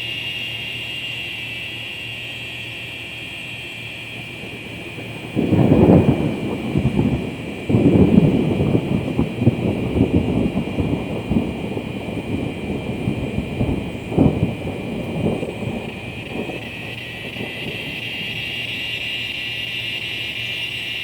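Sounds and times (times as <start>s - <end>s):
cicadas buzzing: 0.0s - 21.0s
rolling thunder: 3.2s - 21.0s.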